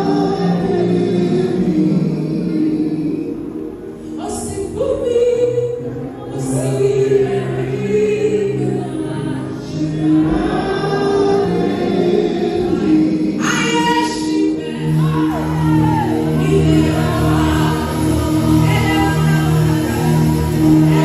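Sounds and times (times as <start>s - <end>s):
women's choir singing a hymn: 0.0s - 21.0s.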